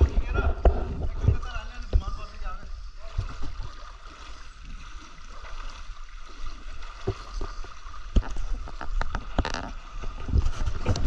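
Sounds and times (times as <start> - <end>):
person wading through shallow water: 0.0 - 11.0.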